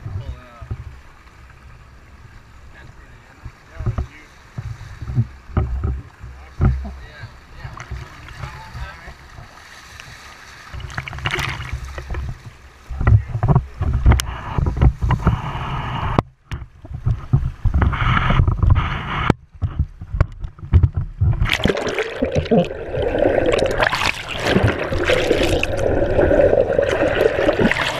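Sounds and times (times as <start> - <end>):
underwater rush and bubbles: 0.8 - 27.9
water splashing: 3.2 - 16.1, 16.8 - 27.9.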